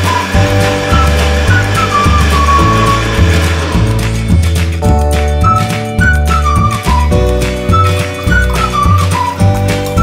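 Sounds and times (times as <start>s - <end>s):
melody with sliding notes over bass: 0.0s - 10.0s.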